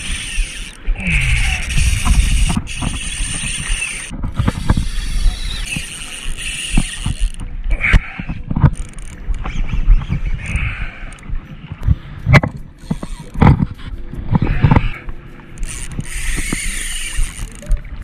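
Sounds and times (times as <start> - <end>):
fishing reel drag buzzing: 0.0 - 7.4, 8.0 - 11.2, 12.8 - 13.4, 14.5 - 17.8
wind and water rumble: 0.0 - 18.0.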